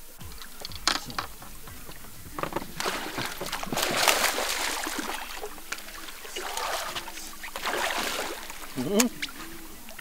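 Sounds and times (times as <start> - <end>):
fish splashing in water: 1.3 - 10.0.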